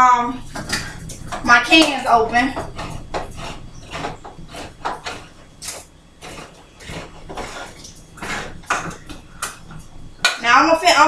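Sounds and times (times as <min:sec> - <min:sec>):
can opener rasping scrape: 0:00.4 - 0:11.0.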